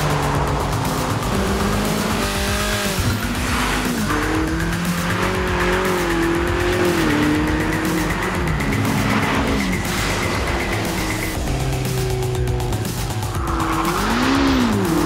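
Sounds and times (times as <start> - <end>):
car engine revving hard: 0.0 - 15.0
music: 0.0 - 15.0.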